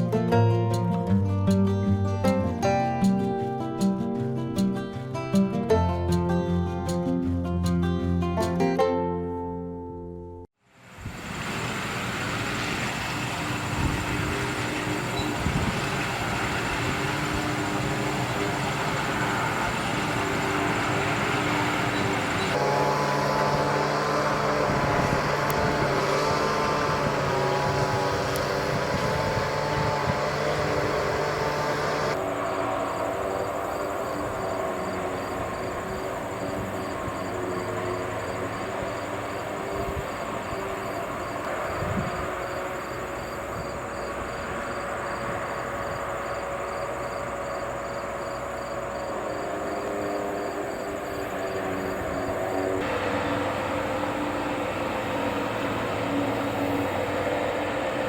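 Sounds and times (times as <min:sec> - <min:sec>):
harvesting machine engine hum: 0:10.7 - 0:58.0.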